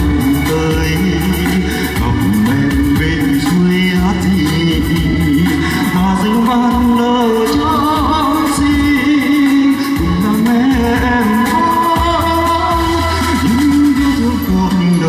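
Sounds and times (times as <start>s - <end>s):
amplified backing track: 0.0s - 15.0s
man singing into a microphone: 0.0s - 15.0s.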